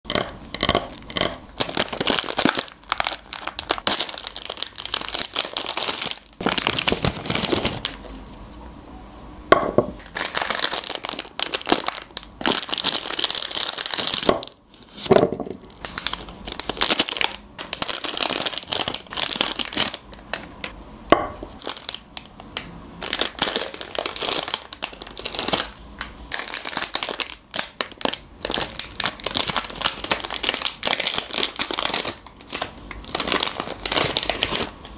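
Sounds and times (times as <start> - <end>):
foil wrappers crinkling and tearing: 0.1 - 8.4, 10.0 - 20.5, 21.5 - 34.8.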